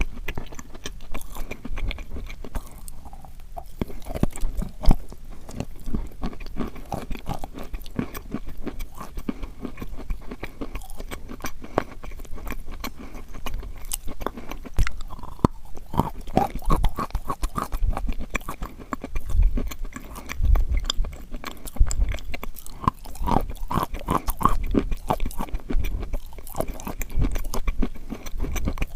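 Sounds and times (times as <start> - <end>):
chewing crunchy chalk: 0.0 - 28.9.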